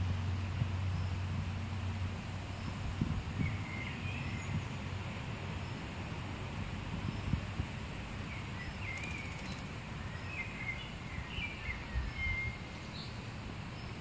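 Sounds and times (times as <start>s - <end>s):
small birds chirping: 2.4s - 14.0s.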